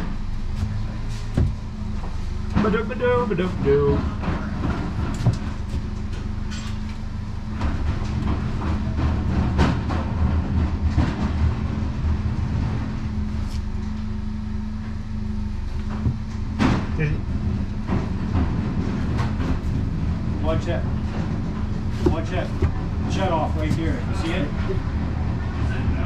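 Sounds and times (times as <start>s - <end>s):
forklift engine rumbling: 0.0s - 26.0s.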